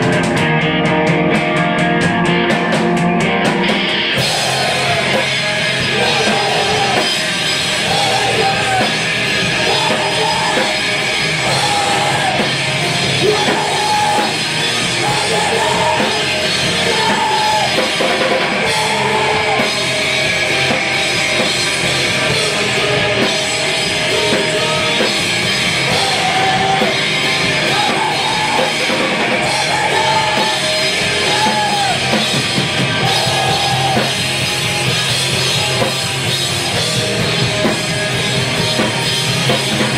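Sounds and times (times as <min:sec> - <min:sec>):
hardcore punk band playing live: 0:00.0 - 0:39.9.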